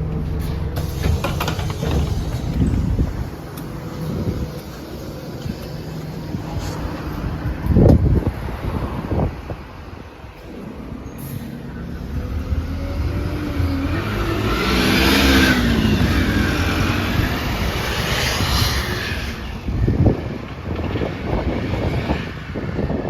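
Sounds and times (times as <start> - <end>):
bus diesel engine pulling away: 0.0 - 23.0.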